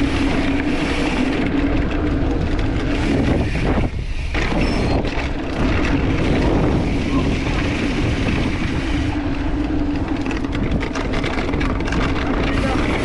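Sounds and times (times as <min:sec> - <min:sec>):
bike tyres rolling on dirt: 0:00.0 - 0:13.0
wind on microphone: 0:00.0 - 0:13.0.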